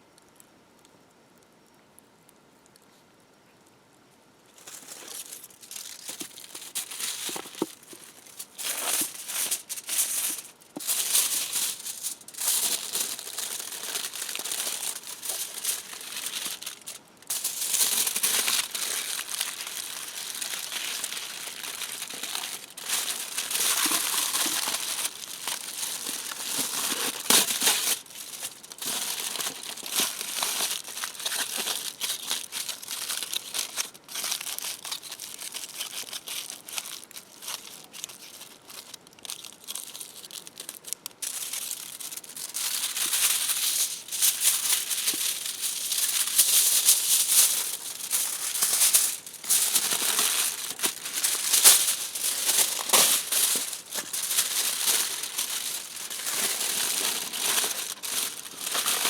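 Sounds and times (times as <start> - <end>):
crinkling and crumpling: 4.5 - 59.0.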